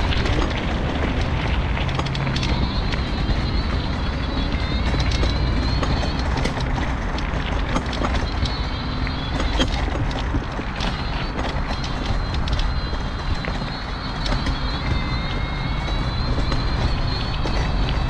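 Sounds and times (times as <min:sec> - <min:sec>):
electric motor whine: 0:00.0 - 0:18.0
mobility scooter rumbling: 0:00.0 - 0:18.0
wheels rattling and clicking: 0:00.0 - 0:18.0.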